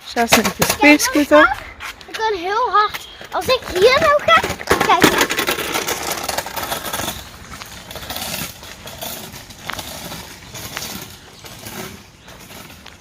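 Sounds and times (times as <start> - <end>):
scooter rolling on pavement: 0.0 - 13.0.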